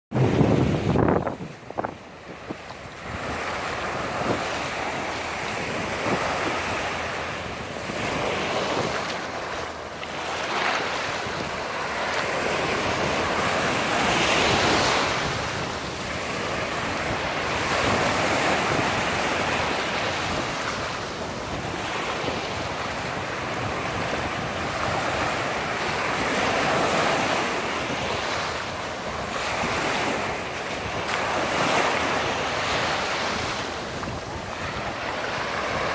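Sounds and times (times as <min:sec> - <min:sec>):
wind rumbling on microphone: 0:00.1 - 0:35.9
sea waves washing in: 0:00.2 - 0:35.9.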